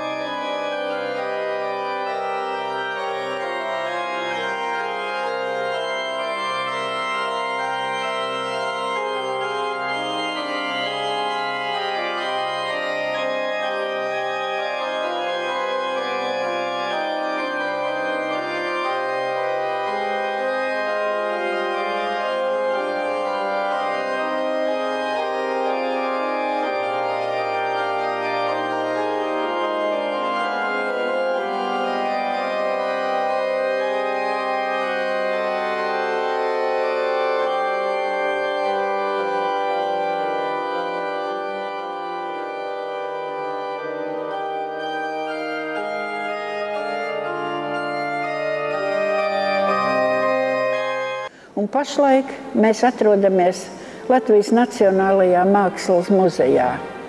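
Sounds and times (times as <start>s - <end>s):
sustained organ chords: 0.0s - 51.3s.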